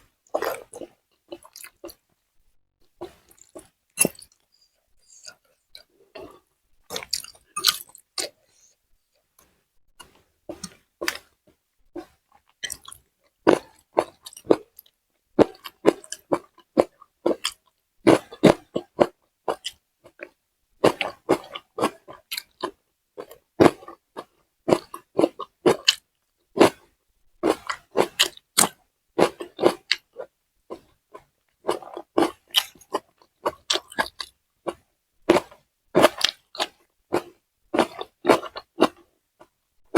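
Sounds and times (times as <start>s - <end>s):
person chewing crunchy food: 0.2s - 2.1s, 2.8s - 8.7s, 9.4s - 39.9s.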